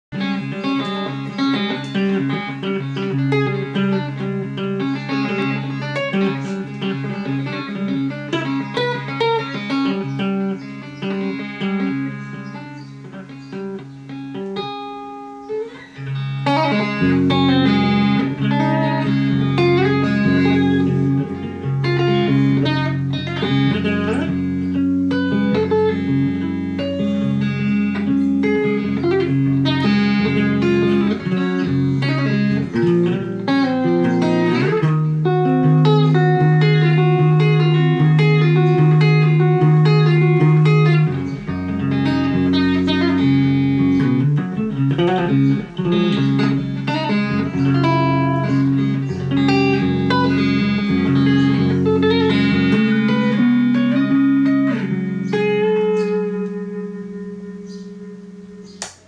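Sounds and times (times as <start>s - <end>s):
electric guitar improvisation: 0.0s - 59.0s.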